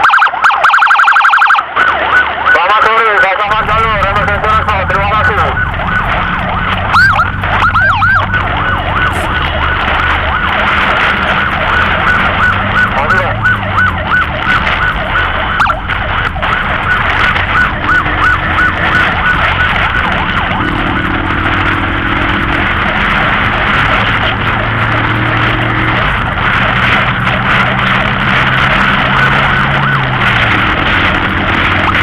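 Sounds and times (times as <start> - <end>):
electronic siren yelping: 0.0 - 32.0
steady engine hum: 2.3 - 32.0.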